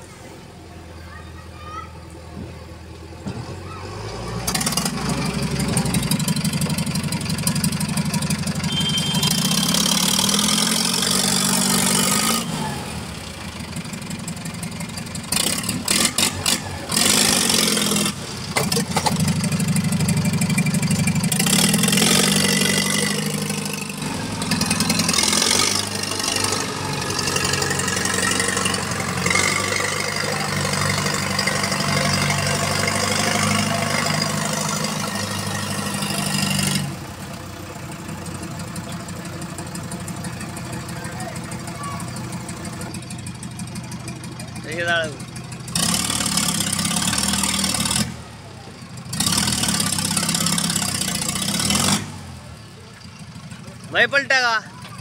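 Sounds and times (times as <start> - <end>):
diesel engines revving: 0.0 - 55.0.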